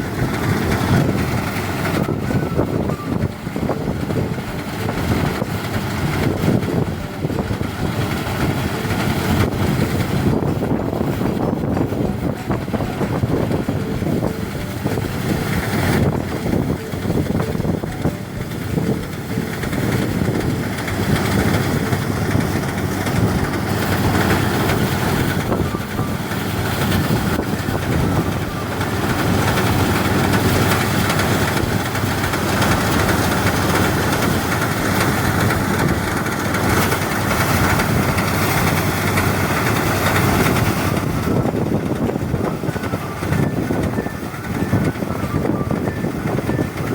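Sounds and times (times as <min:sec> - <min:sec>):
threshing machine engine running: 0:00.0 - 0:46.9.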